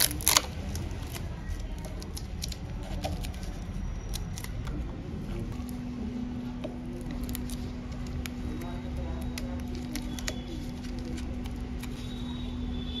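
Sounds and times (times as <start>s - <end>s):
low background noise: 0.0s - 13.0s
steady low hum: 0.0s - 13.0s.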